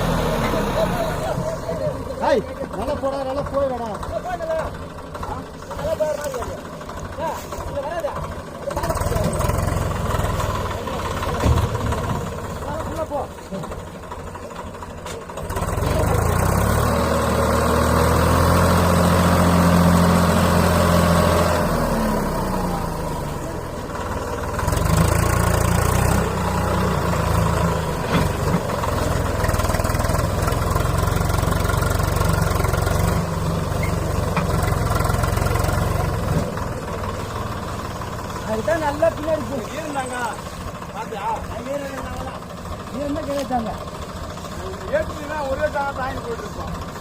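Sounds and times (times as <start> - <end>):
tractor diesel engine revving: 0.0 - 47.0.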